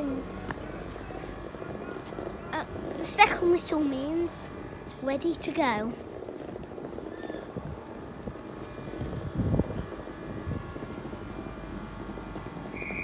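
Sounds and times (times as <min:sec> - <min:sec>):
faint whines: 0:00.0 - 0:13.0
train engine droning: 0:00.0 - 0:13.0.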